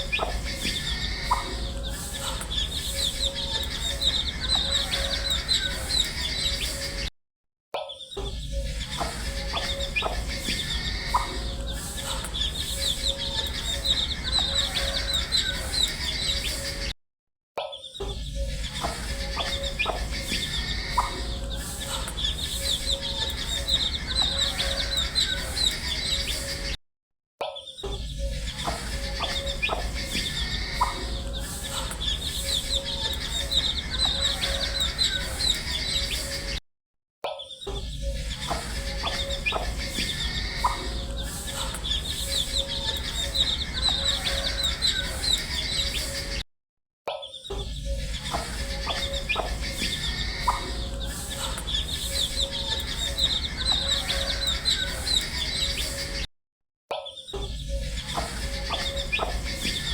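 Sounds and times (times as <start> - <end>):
chicks peeping: 0.0 - 7.1, 8.6 - 16.9, 18.5 - 26.7, 28.2 - 36.6, 37.9 - 46.4, 47.8 - 56.2, 57.7 - 59.9.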